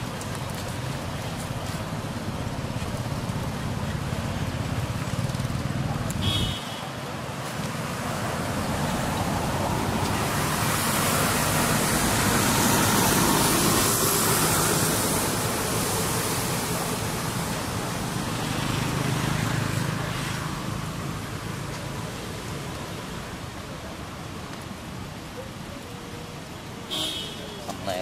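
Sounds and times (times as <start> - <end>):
passing vehicles rushing: 0.0 - 25.4.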